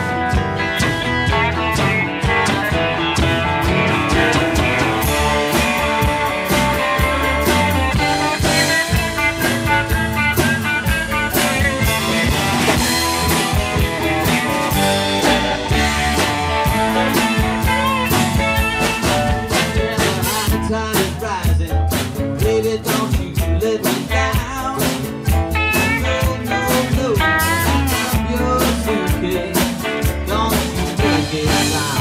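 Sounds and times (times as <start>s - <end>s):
bending sliding guitar lead: 0.0s - 21.4s, 24.0s - 32.0s
blues rock band playing: 0.0s - 32.0s.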